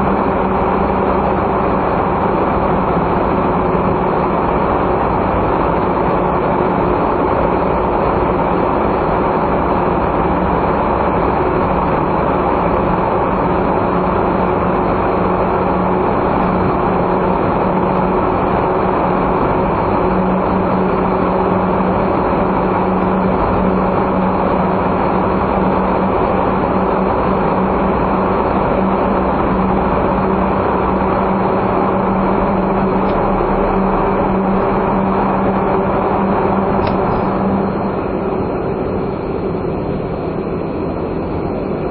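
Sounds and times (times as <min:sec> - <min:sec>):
car engine drone: 0:00.0 - 0:41.9
road noise: 0:00.0 - 0:41.9.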